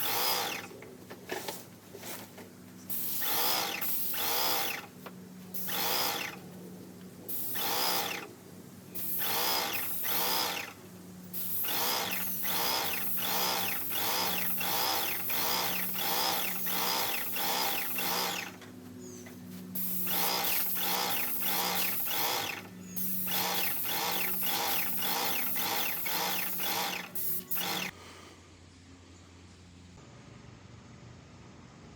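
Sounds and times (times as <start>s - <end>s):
paint sprayer pulsing: 0.0s - 6.6s, 7.2s - 28.0s.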